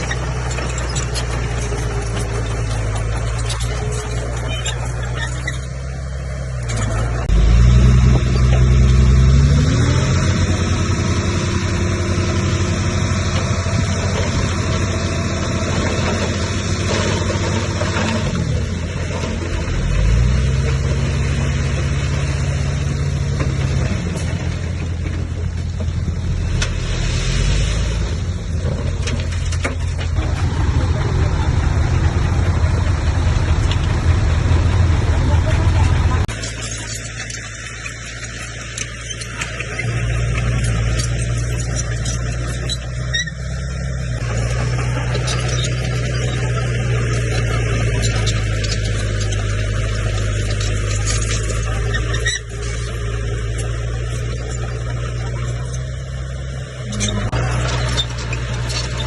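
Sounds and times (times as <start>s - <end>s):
bulldozer diesel engine revving: 0.0s - 59.0s.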